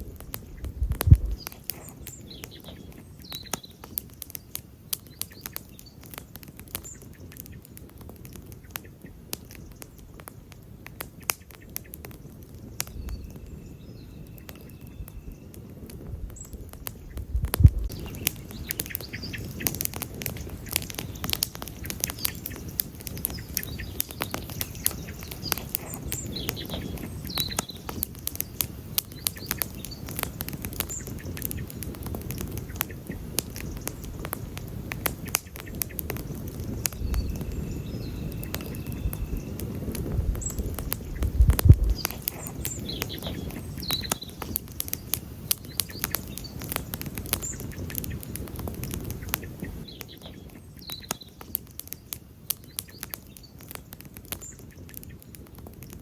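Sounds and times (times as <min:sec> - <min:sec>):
campfire crackling and popping: 0:00.0 - 0:56.0
low rush of flames: 0:00.0 - 0:56.0.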